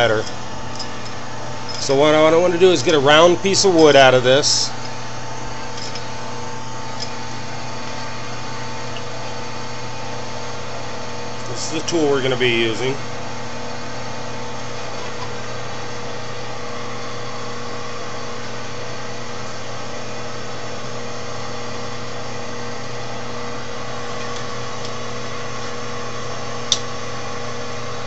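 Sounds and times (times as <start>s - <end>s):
lathe motor humming: 0.0s - 28.0s.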